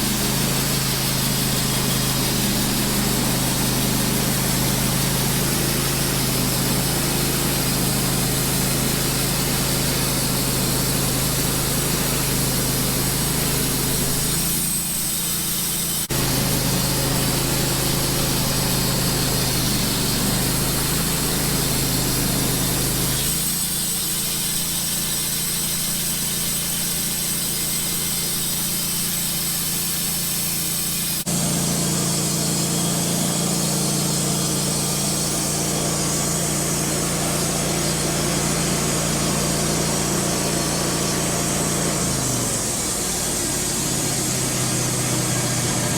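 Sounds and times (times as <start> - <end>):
band sawmill cutting log: 0.0 - 45.9.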